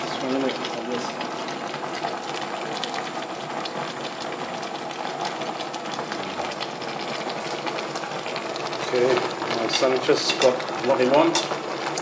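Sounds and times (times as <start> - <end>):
soup boiling and bubbling: 0.0 - 12.0.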